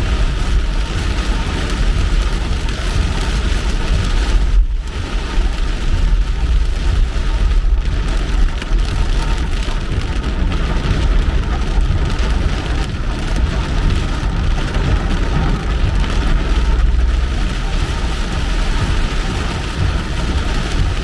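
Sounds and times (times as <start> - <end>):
car tyres on wet road: 0.0 - 21.0
rain on a car: 0.0 - 21.0.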